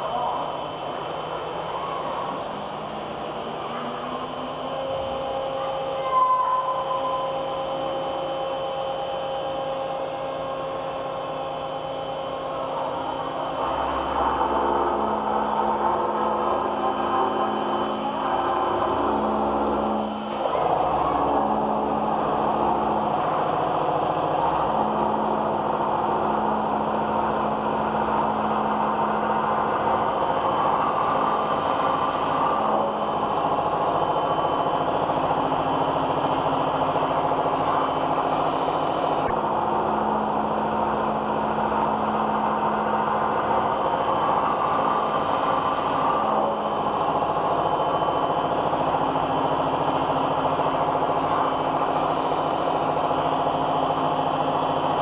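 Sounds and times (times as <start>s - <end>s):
machine hum: 0.0s - 55.0s
router spindle whine: 0.0s - 55.0s.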